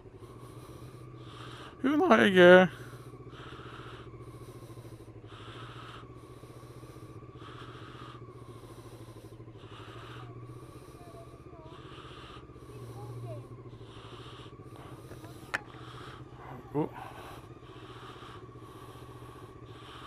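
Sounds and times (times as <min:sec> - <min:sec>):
motorcycle engine running low: 0:00.0 - 0:20.0.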